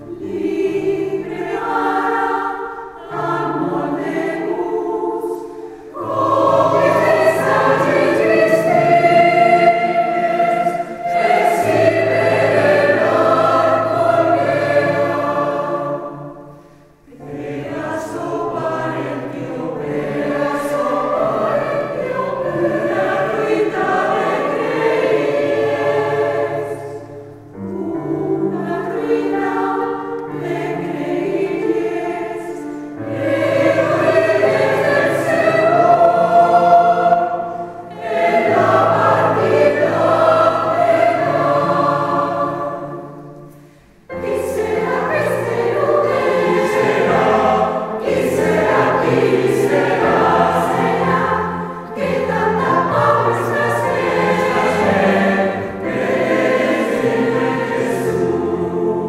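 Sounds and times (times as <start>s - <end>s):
mixed choir singing a carol: 0.0s - 59.0s.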